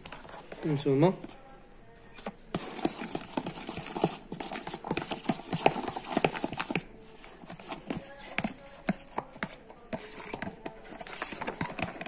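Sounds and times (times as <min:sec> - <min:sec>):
fork scraping polystyrene tray: 0:02.0 - 0:12.0.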